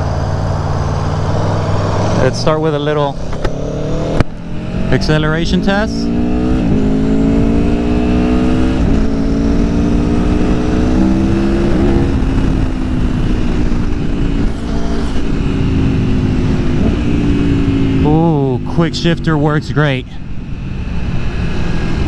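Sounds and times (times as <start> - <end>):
motorcycle engine accelerating: 0.0 - 22.0
wind rushing: 0.8 - 18.7.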